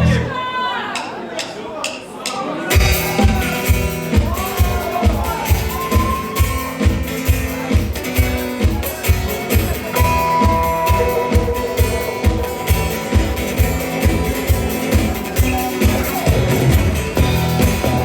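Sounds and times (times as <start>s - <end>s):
guitar: 0.0s - 0.4s, 2.7s - 18.0s.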